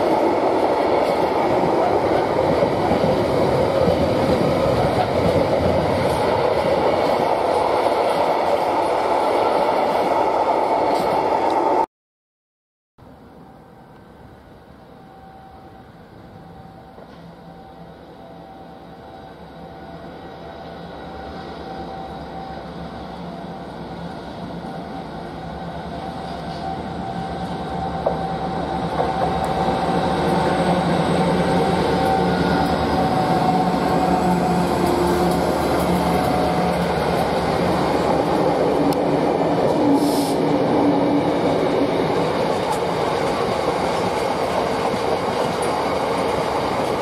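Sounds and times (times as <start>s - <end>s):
train engine hum: 0.0s - 11.9s, 13.0s - 47.0s.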